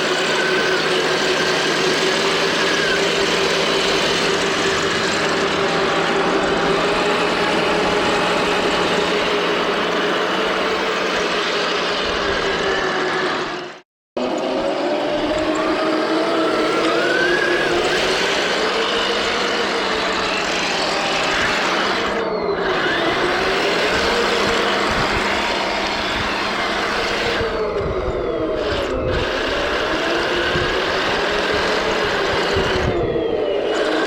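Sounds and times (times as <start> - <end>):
toy tank motor whirring: 0.0 - 34.0.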